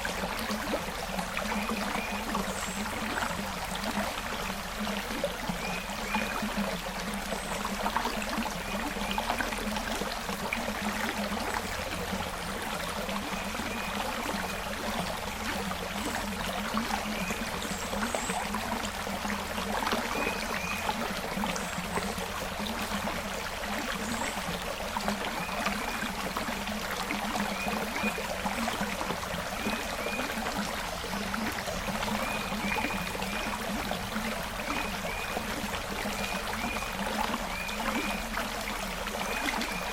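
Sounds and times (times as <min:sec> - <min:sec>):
creek flowing and trickling: 0:00.0 - 0:39.9.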